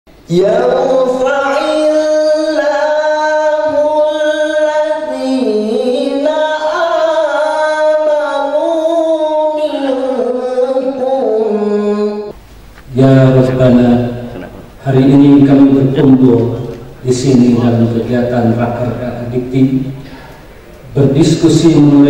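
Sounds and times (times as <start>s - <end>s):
man chanting into a microphone: 0.3s - 20.1s, 20.9s - 22.0s.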